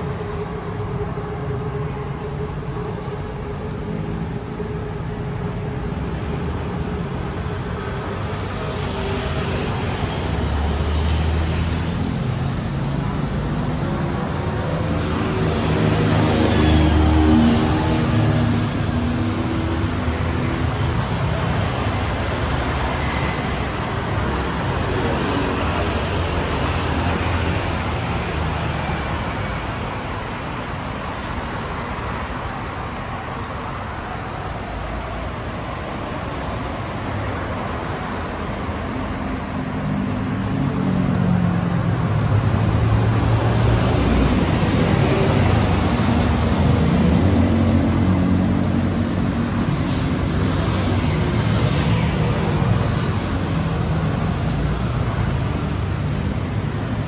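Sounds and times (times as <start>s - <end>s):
traffic passing: 0.0s - 57.0s.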